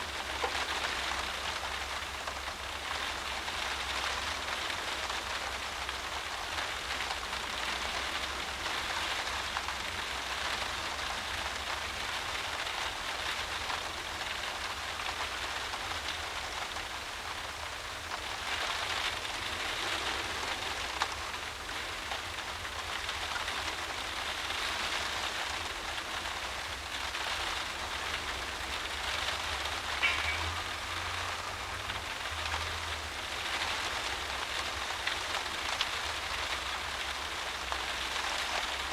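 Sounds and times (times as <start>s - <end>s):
heavy rain on a windowpane: 0.0s - 38.9s.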